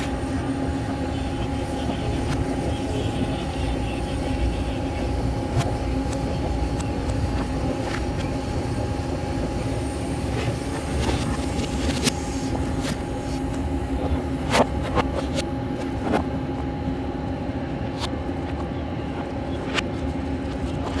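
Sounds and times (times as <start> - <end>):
constant hum: 0.0 - 21.0.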